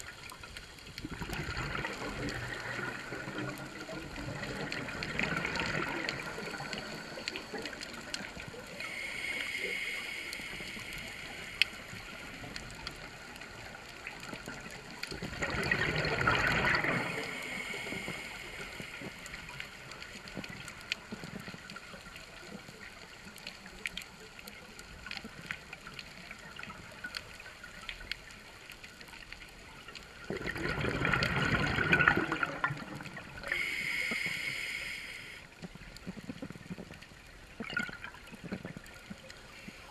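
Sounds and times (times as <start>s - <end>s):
exhaled bubbles underwater: 0.0s - 39.9s
faint clicks: 0.0s - 39.9s.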